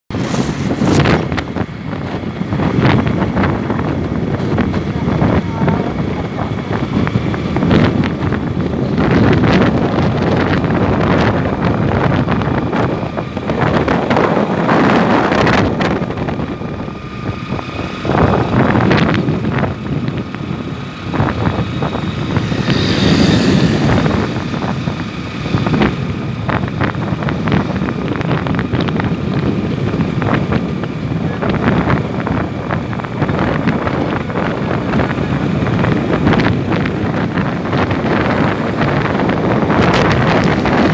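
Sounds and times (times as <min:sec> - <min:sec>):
road noise rushing: 0:00.1 - 0:40.9
wind buffeting microphone: 0:00.1 - 0:40.9.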